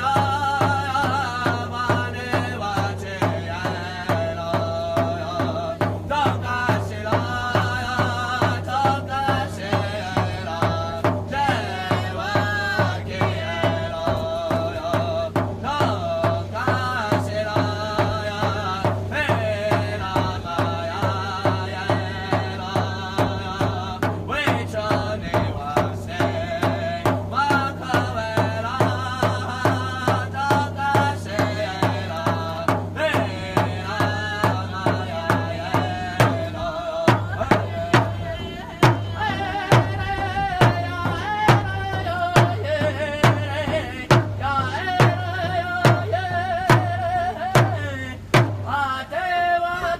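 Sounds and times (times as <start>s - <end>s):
steady drumming: 0.0s - 48.9s
voices singing: 0.0s - 49.9s.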